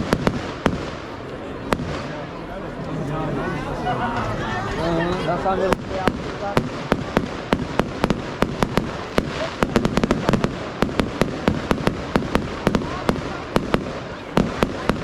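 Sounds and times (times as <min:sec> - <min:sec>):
fireworks bangs and cracks: 0:00.0 - 0:02.5, 0:05.1 - 0:15.0.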